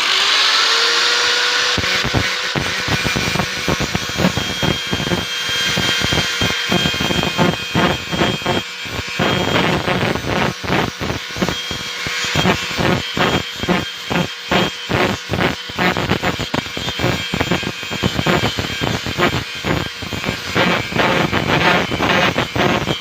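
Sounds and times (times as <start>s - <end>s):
power tool cutting steel: 0.0s - 23.0s.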